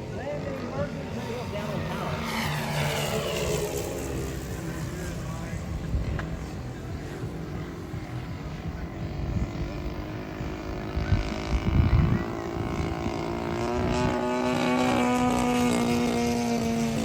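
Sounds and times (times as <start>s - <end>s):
aircraft engines running: 0.0s - 17.0s.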